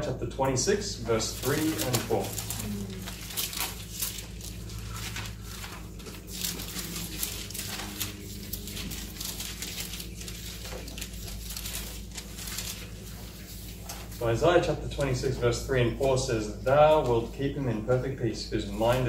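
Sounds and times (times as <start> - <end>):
low hum: 0.0 - 19.0
thin pages rustling: 1.0 - 14.4, 15.0 - 17.6, 18.6 - 19.0.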